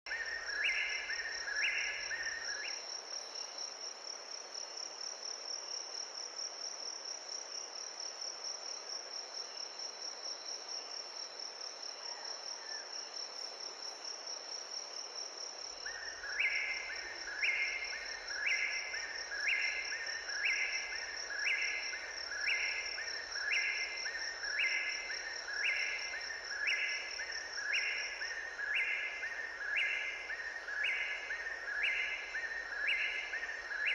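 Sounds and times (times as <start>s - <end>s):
cricket-like insect trill: 0.1s - 33.9s.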